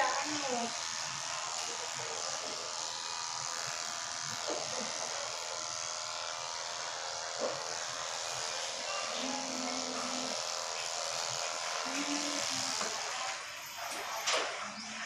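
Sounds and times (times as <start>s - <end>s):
electric clipper buzzing: 0.0s - 15.0s.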